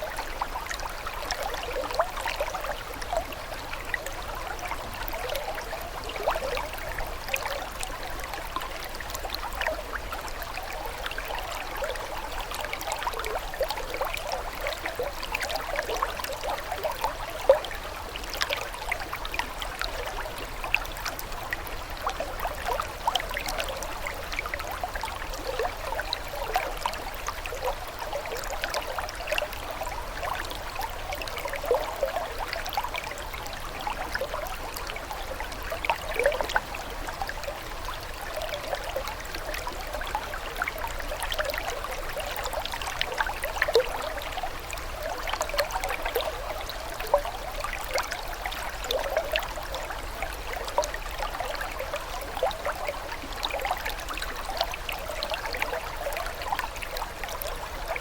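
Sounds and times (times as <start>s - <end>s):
water trickling and babbling: 0.0s - 58.0s.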